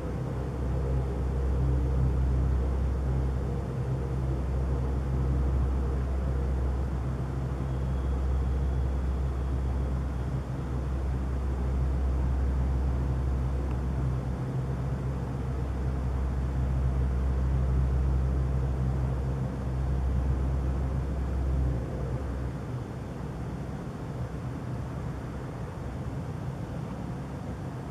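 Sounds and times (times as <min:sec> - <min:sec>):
deep droning hum: 0:00.0 - 0:22.8.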